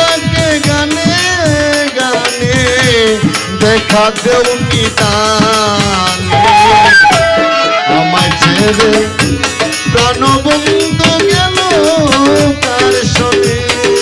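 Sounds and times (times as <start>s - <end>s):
harmonium melody: 0.0s - 14.0s
man singing: 0.0s - 14.0s
tabla fast beat: 0.0s - 14.0s.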